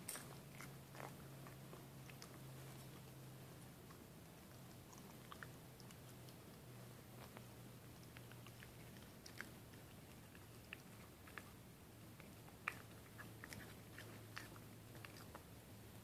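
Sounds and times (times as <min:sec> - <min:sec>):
low steady hum: 0:00.0 - 0:16.0
puppy chewing a bone: 0:00.0 - 0:16.0.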